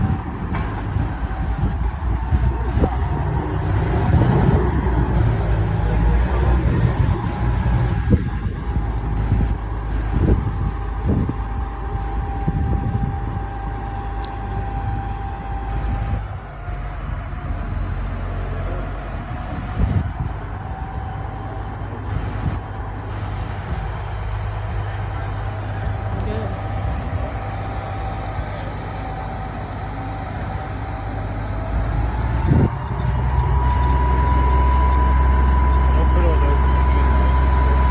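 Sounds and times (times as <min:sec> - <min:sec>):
crane engine rumbling: 0:00.0 - 0:37.9
thin steady whine: 0:00.0 - 0:37.9.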